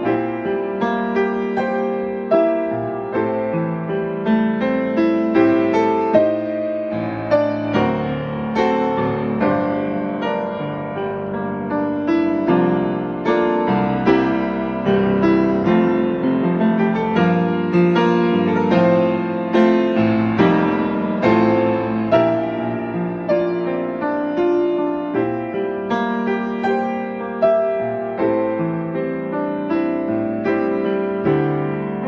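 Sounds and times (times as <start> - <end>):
slow gentle piano chords: 0.0 - 32.0.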